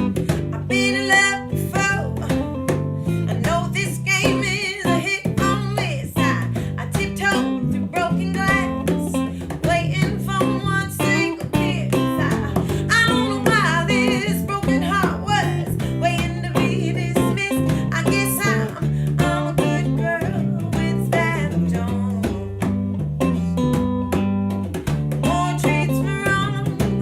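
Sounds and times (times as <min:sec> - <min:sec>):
rock and soul band playing: 0:00.0 - 0:27.0.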